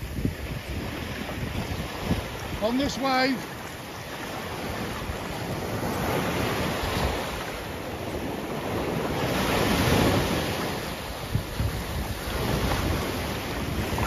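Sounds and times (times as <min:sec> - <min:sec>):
surf waves breaking on beach: 0:00.0 - 0:14.0.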